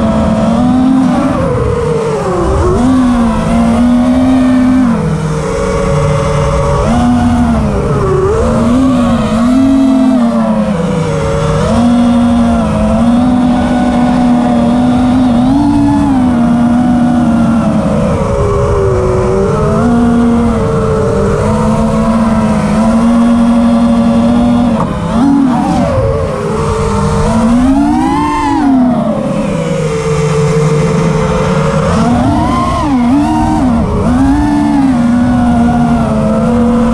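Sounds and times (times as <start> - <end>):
drone motors whining: 0.0 - 36.9
wind noise: 0.0 - 36.9.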